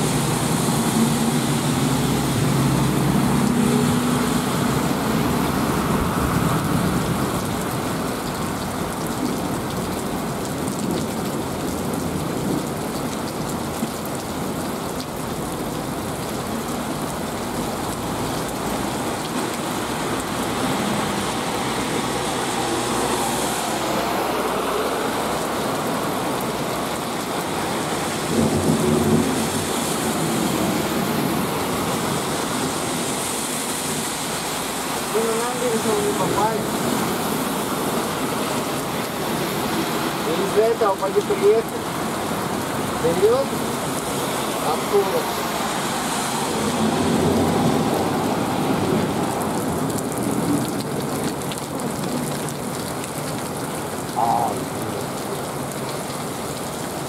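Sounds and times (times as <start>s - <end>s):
cars swishing through water: 0.0s - 57.0s
heavy rain on wet street: 0.0s - 57.0s.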